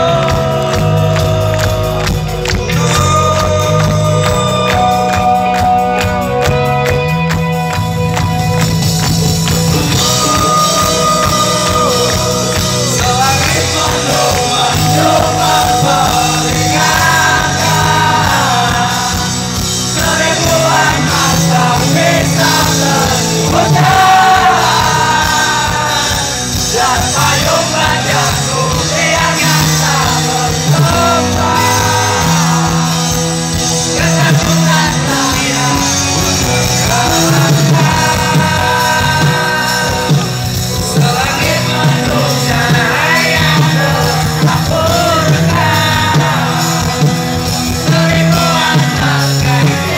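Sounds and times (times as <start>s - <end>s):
man singing: 0.0s - 6.8s, 9.4s - 49.9s
live rock band: 0.0s - 49.9s.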